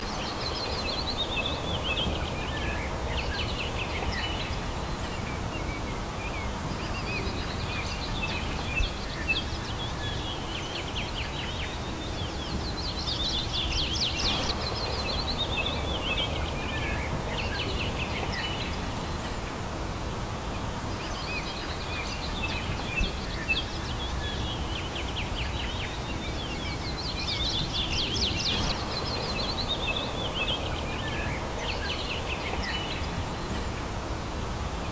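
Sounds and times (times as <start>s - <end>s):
low background hiss: 0.0s - 34.9s
songbirds trilling: 0.0s - 34.9s.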